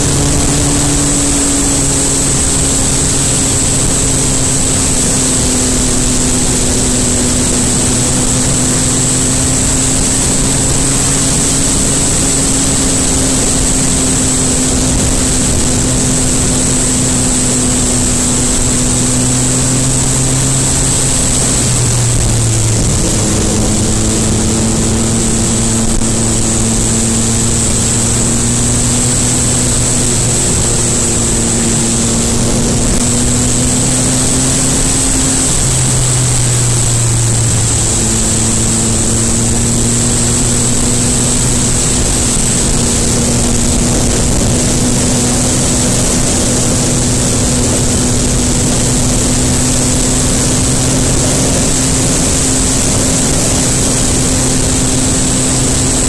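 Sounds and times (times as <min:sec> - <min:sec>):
dense rush of noise: 0:00.0 - 0:56.0
motorcycle engine running: 0:00.0 - 0:56.0.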